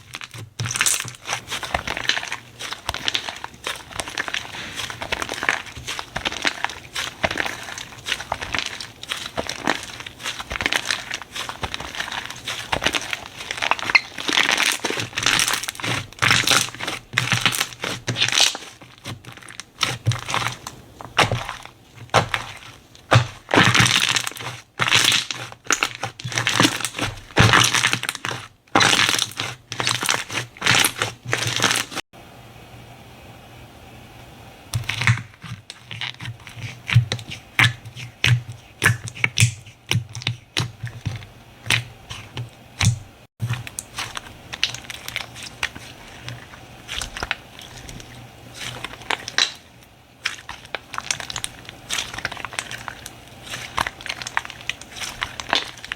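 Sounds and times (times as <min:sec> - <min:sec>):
slime crackling and popping: 0:00.0 - 0:32.0, 0:34.8 - 0:55.9.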